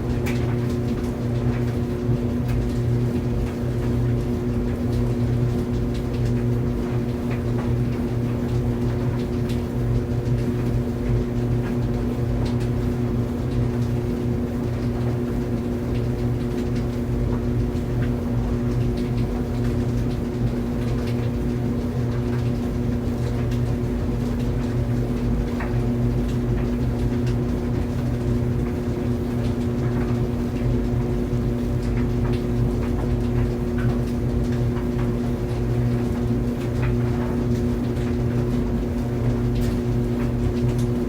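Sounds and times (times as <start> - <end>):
tumble dryer hum and rumble: 0.0 - 41.0.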